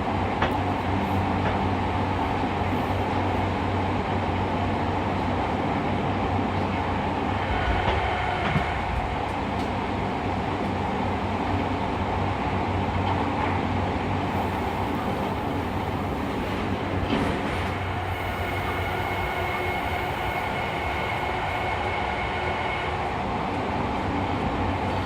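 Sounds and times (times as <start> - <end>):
subway train running in tunnel: 0.0 - 25.0.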